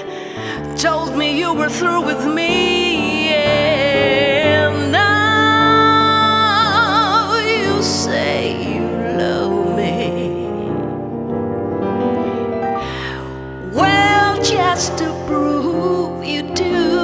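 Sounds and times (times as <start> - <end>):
woman singing a ballad: 0.0 - 11.0, 12.8 - 17.0
piano accompaniment: 0.0 - 17.0.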